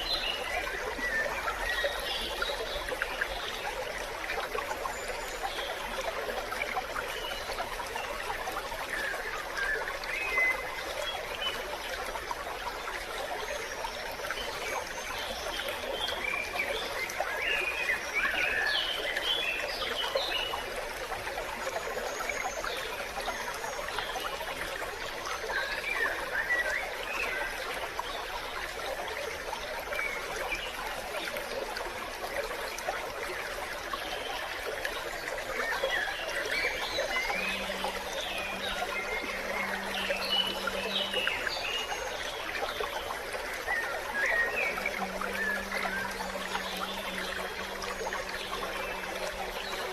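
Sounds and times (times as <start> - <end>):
stream trickling: 0.0 - 49.9.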